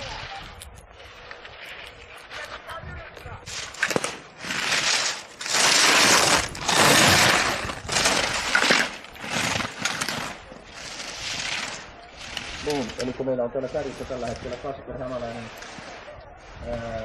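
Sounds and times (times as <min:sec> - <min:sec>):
skis scraping on hard snow: 0:00.0 - 0:17.0.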